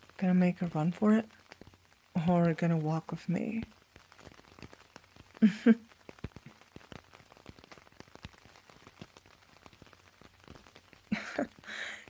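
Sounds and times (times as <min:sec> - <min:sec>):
raindrops pattering: 0:00.0 - 0:12.0.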